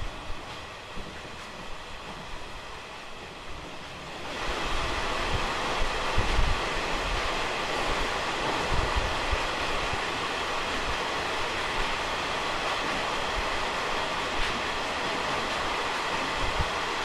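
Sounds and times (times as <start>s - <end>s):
passenger train running noise: 0.0s - 17.0s.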